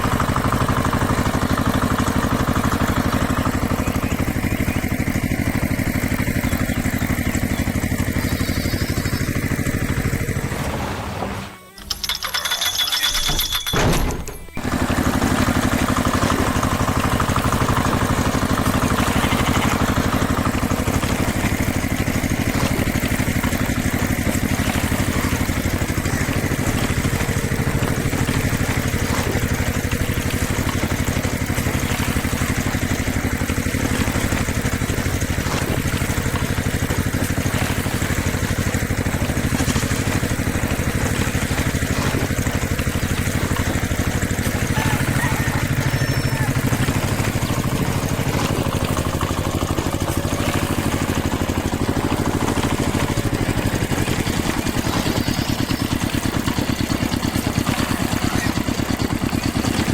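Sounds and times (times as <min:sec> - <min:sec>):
engine idling: 0:00.0 - 0:11.2, 0:11.8 - 0:59.9.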